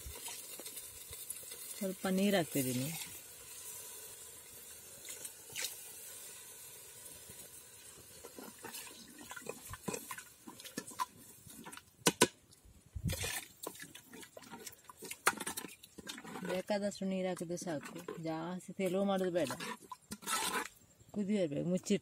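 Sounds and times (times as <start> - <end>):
ladle stirring curry in a pot: 0.1 - 12.3, 13.4 - 20.8.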